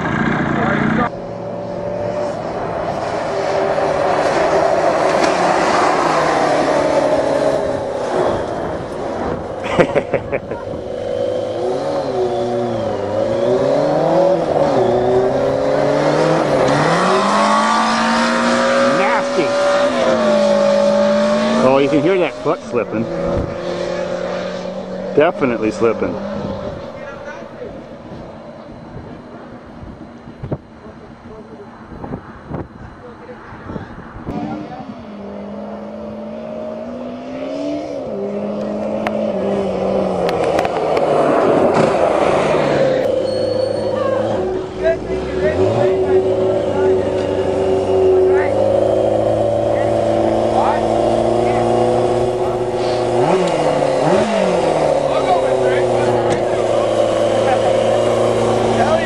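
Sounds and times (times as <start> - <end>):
motorcycle engine revving: 0.0 - 30.0, 34.3 - 59.0.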